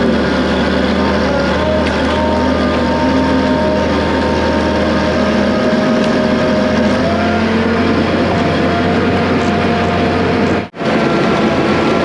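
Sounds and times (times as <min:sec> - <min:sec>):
constant whine: 0:00.0 - 0:12.0
diesel engine running: 0:00.0 - 0:12.0.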